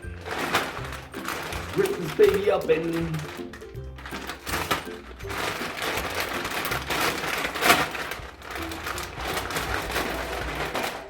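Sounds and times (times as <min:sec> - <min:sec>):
packaging crackling and rustling: 0:00.0 - 0:11.0
packaging ripping: 0:00.0 - 0:11.0.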